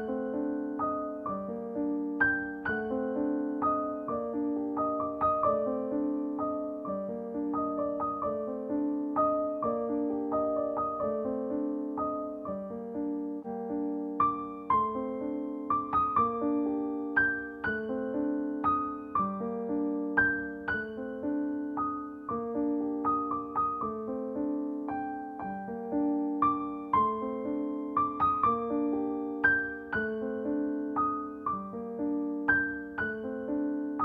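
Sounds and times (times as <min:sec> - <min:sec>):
gentle piano tune: 0:00.0 - 0:34.0.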